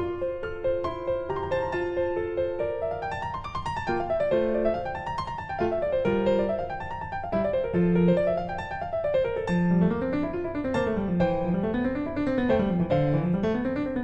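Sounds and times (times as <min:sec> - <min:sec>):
piano arpeggios: 0:00.0 - 0:14.0.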